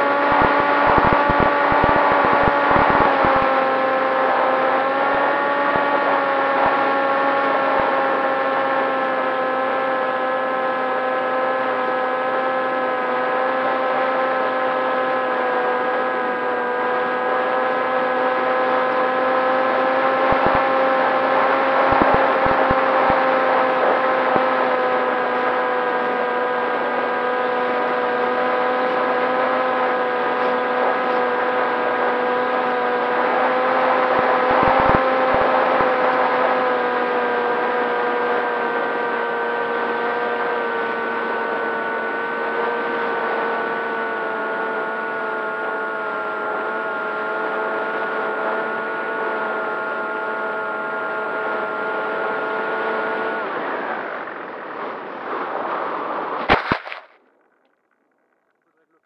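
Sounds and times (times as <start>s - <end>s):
electric motor whine: 0.0s - 57.0s
low wind bumps: 0.0s - 59.0s.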